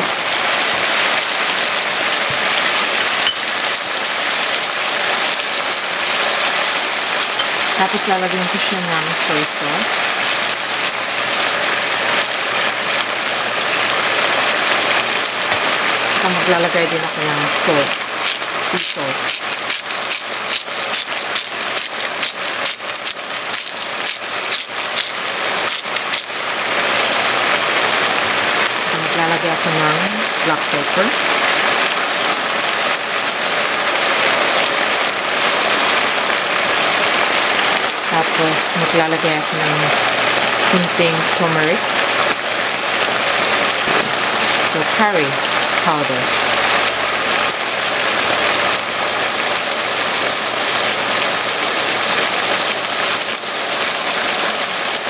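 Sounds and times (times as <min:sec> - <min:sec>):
chicken and potatoes sizzling in pan: 0:00.0 - 0:55.0.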